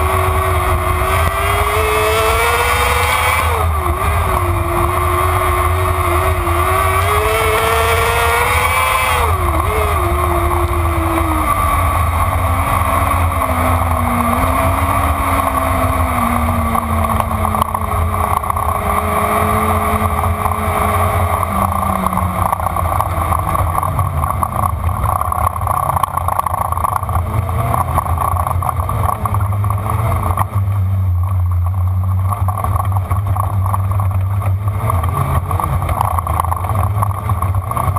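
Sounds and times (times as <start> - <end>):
race car engine running: 0.0 - 37.9.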